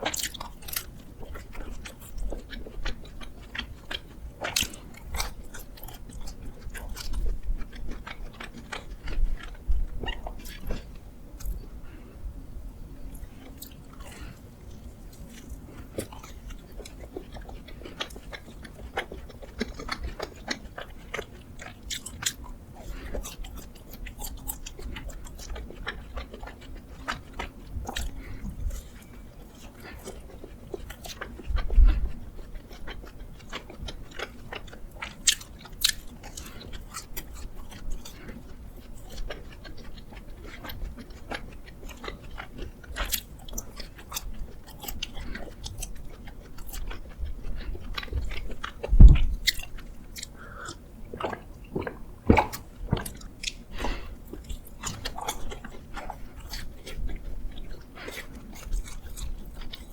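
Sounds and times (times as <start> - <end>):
biting and chewing donuts: 0.0 - 12.1, 13.0 - 59.9.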